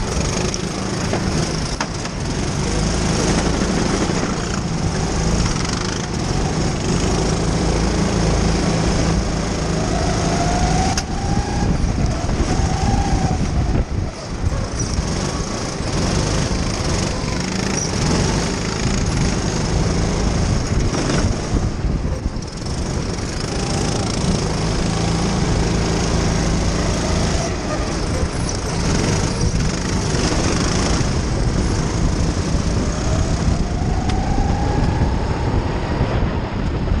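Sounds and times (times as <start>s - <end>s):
kart engine buzzing: 0.0s - 37.0s.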